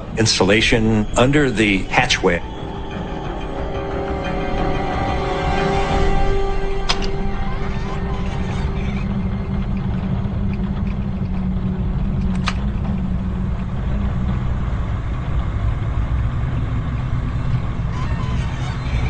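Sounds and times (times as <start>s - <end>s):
suspense soundtrack drone: 0.0s - 19.0s.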